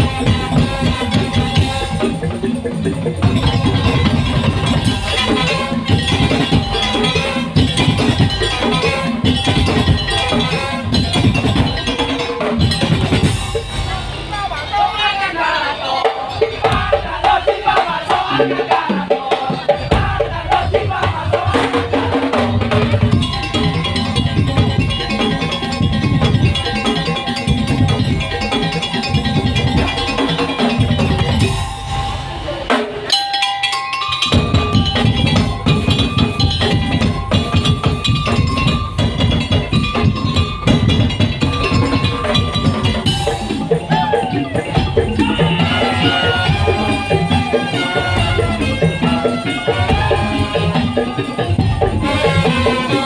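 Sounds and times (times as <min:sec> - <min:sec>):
wooden slit drums and drums: 0:00.0 - 0:14.6, 0:16.1 - 0:53.0
percussion ensemble playing: 0:00.0 - 0:53.0
pitched melody: 0:00.0 - 0:53.0.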